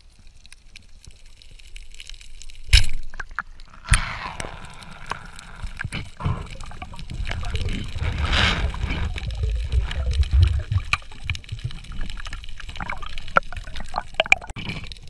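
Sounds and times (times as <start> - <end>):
water rushing and bubbling: 2.4 - 15.0.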